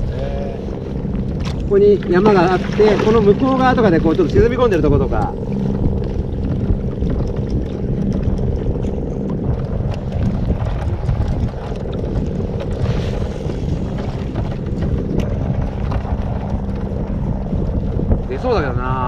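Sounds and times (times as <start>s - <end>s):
water splashing against kayak hull: 0.0s - 18.9s
wind buffeting microphone: 0.0s - 19.0s.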